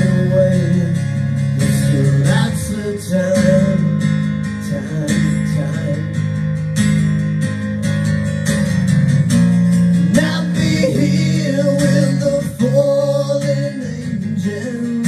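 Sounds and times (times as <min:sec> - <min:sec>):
acoustic guitar strumming: 0:00.0 - 0:15.0
bass: 0:00.0 - 0:15.0.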